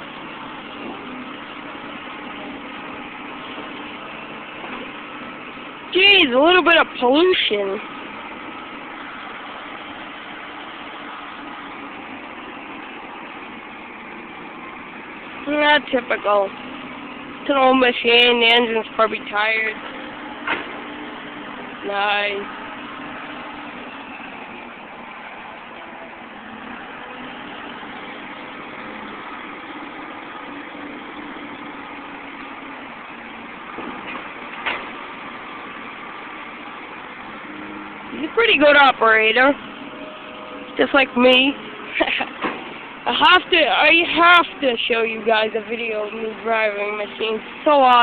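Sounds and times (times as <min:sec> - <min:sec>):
distant excavator diesel engine: 0:00.0 - 0:48.0.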